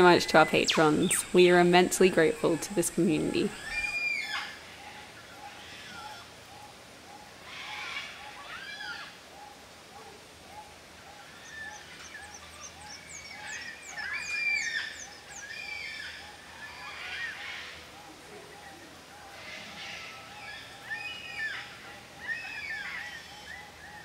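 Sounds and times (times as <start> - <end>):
birds calling: 0.0 - 24.0.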